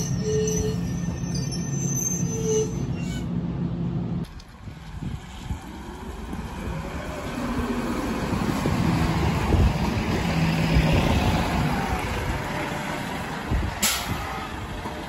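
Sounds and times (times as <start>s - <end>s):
bus diesel engine rumble: 0.0s - 15.0s.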